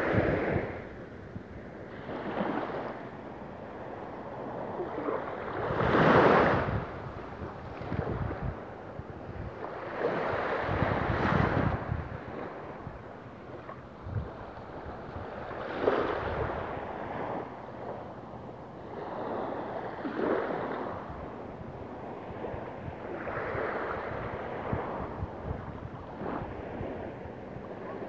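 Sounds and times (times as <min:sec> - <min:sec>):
small waves lapping on beach: 0:00.0 - 0:28.0
wind buffeting microphone: 0:00.0 - 0:28.0.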